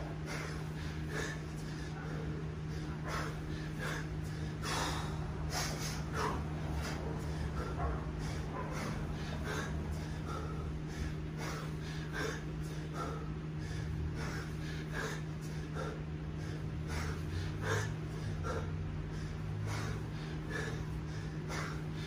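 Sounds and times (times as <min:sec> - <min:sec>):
man breathing heavily: 0:00.0 - 0:22.0
steady low hum: 0:00.0 - 0:22.0.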